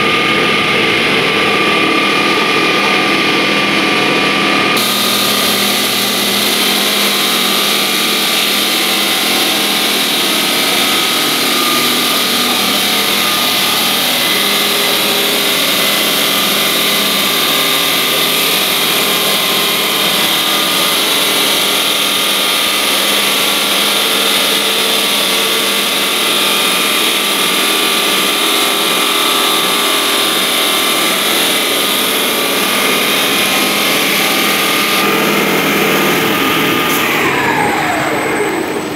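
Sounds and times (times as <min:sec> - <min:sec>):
stone-cutting saw cutting ceramic: 0:04.8 - 0:38.9.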